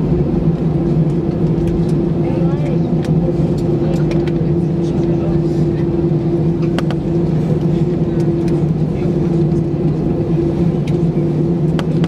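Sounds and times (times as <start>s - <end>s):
aircraft hum: 0.0s - 12.0s.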